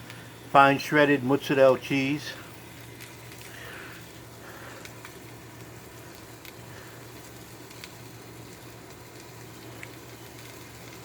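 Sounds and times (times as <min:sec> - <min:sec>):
food sizzling on a griddle: 0:00.0 - 0:11.0
low hum of gas burner: 0:00.0 - 0:11.0.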